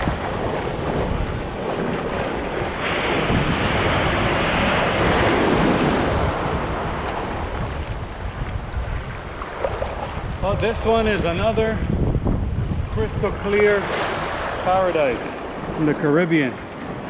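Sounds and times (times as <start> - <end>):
surf breaking on beach: 0.0 - 17.0
wave crashing: 0.0 - 17.0
wind rumbling on microphone: 0.0 - 17.0.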